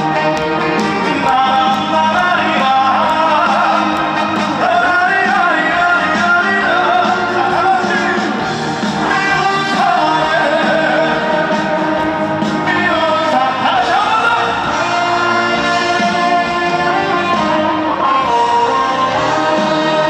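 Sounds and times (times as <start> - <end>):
amplified band with electric guitar: 0.0 - 20.0
man singing: 0.0 - 20.0.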